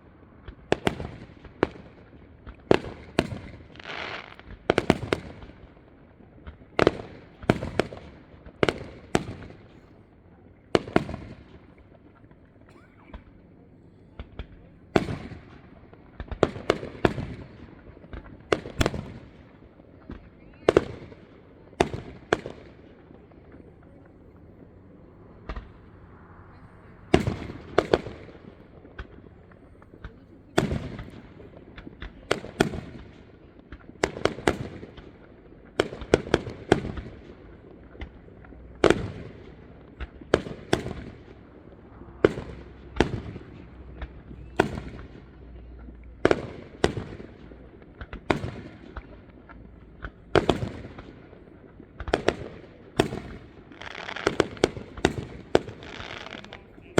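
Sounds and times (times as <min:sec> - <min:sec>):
fireworks booming with echo: 0:00.3 - 0:56.9.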